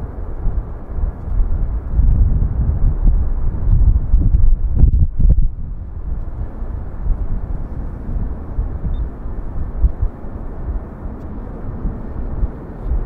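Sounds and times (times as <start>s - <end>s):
jet engines rumbling on takeoff: 0.0s - 13.0s
wind buffeting microphone: 0.0s - 13.0s.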